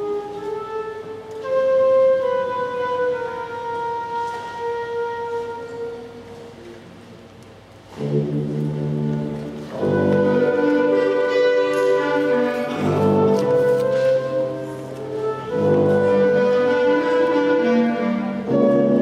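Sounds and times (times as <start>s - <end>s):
wind band playing: 0.0s - 6.8s, 7.8s - 19.0s.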